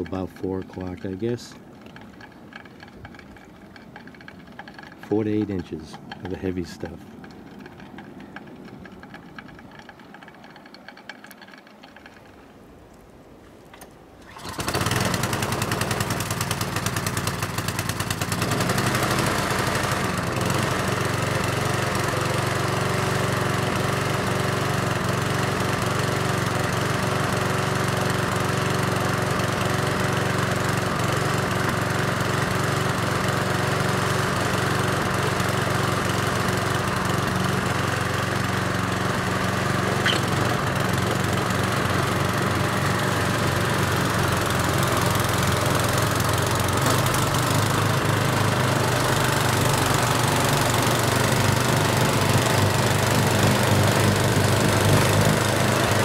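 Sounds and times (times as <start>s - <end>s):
snowblower engine running: 0.0s - 12.3s, 14.2s - 56.0s.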